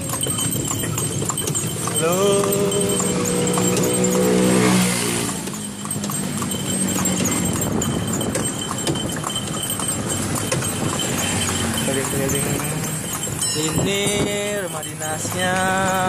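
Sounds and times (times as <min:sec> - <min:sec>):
cart rolling: 0:00.0 - 0:16.0
horse hooves on asphalt: 0:00.0 - 0:16.0
passing road traffic: 0:00.0 - 0:16.0.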